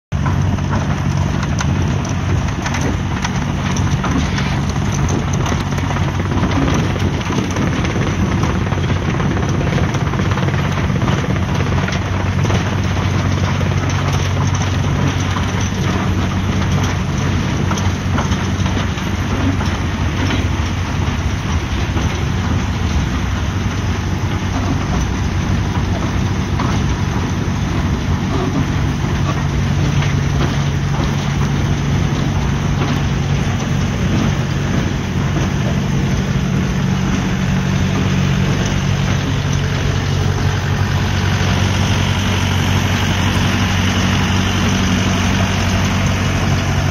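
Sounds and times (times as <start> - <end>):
diesel engine droning: 0.1 - 46.9
steady noisy hiss: 0.2 - 46.9.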